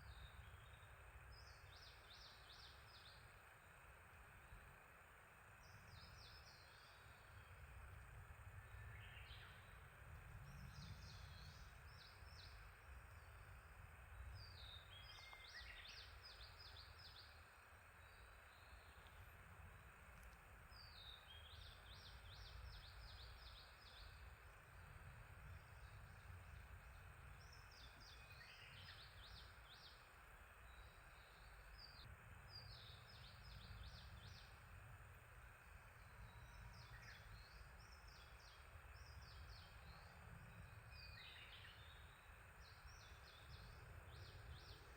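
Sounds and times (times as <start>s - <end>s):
faint outdoor rumble: 0.0s - 44.9s
small songbirds singing: 0.0s - 44.9s.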